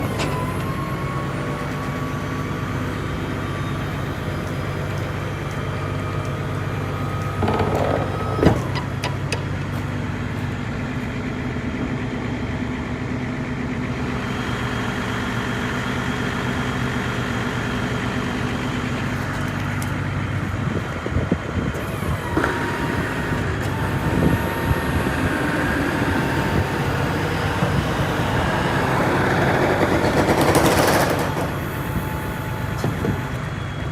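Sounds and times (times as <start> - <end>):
truck engine idling: 0.0 - 33.9.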